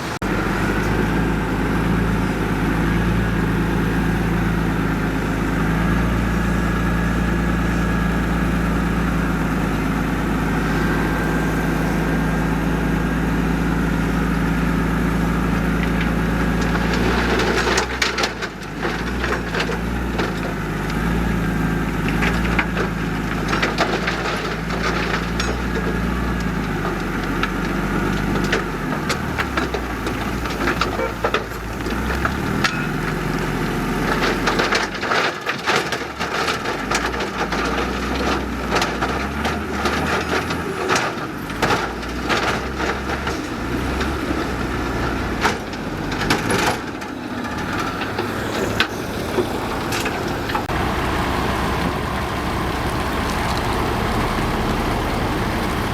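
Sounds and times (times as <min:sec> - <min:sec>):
heavy diesel machinery running: 0:00.0 - 0:55.9
cracks and clatters of soil and stones: 0:00.7 - 0:55.9.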